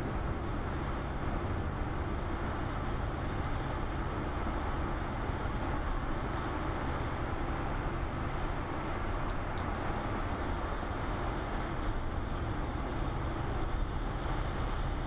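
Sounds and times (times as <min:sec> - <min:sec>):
road and tyre noise: 0:00.0 - 0:15.0.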